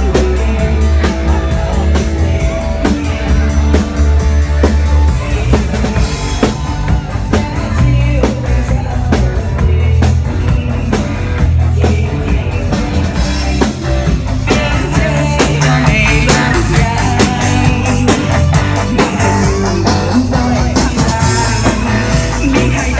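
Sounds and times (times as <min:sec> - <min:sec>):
drum kit beat: 0:00.0 - 0:22.9
live band playing: 0:00.0 - 0:22.9.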